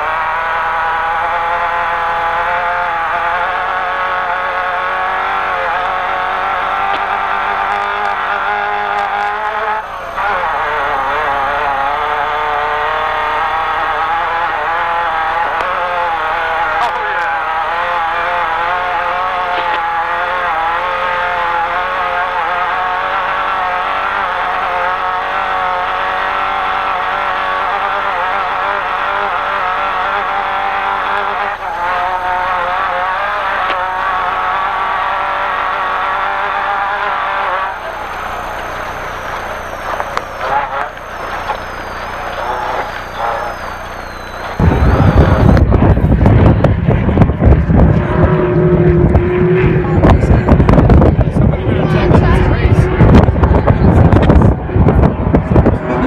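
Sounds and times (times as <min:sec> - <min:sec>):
driving noise: 0:00.0 - 0:56.0
race truck engine revving: 0:00.0 - 0:56.0.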